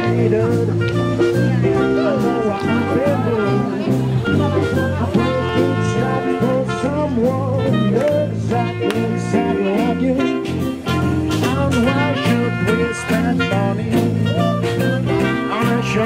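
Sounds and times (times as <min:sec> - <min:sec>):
man singing: 0:00.0 - 0:16.0
swing band playing jazz: 0:00.0 - 0:16.0.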